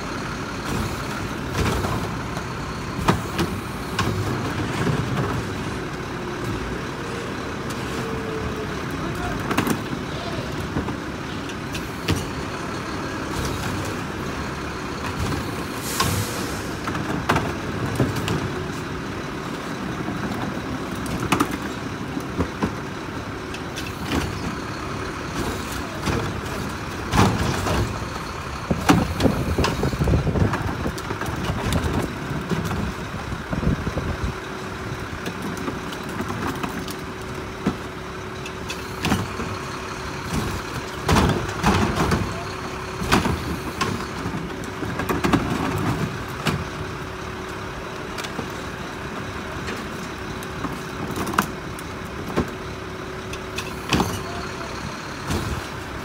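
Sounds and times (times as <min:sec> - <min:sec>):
garbage truck idling: 0:00.0 - 0:56.0
trash carts thumping and clattering: 0:00.6 - 0:47.1, 0:48.0 - 0:56.0.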